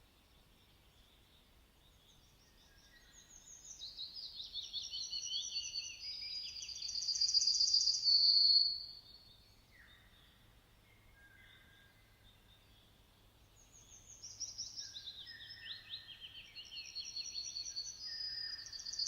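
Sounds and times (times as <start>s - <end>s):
songbird singing trills: 0.0s - 19.0s.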